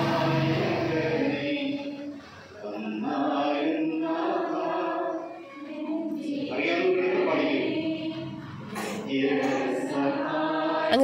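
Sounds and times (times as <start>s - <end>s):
slow chant in held notes: 0.0s - 11.0s.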